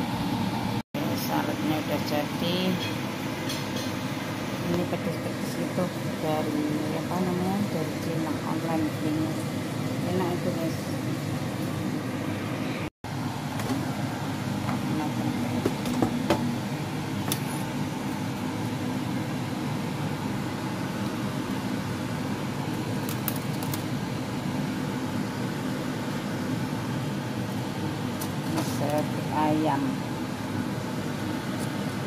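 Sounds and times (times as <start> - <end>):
kitchen fan motor whirring: 0.0 - 32.0.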